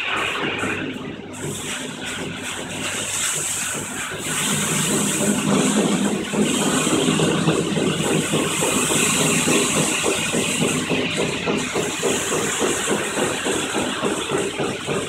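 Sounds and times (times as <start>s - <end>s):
car wash pumps humming: 0.0s - 15.0s
high-pressure water spray hissing: 0.0s - 15.0s.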